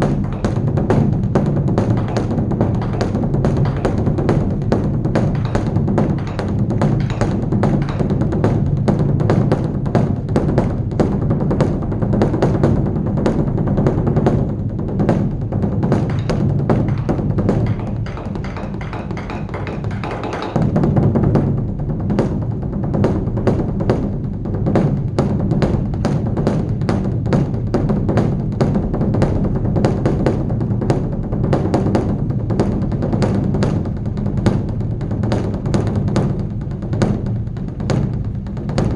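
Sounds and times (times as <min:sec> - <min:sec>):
large drum beaten with sticks: 0:00.0 - 0:38.9.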